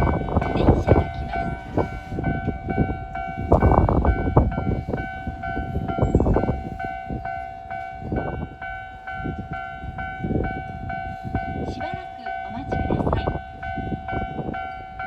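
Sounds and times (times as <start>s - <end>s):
level crossing bell ringing: 0.0s - 15.0s.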